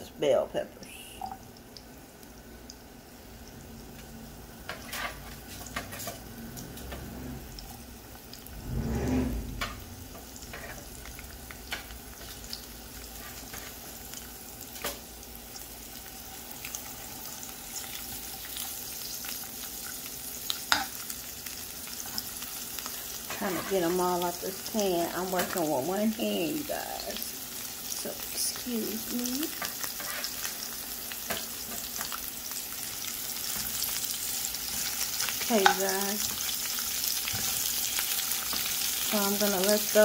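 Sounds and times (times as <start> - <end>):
peppers sizzling in oil: 0.0 - 40.0.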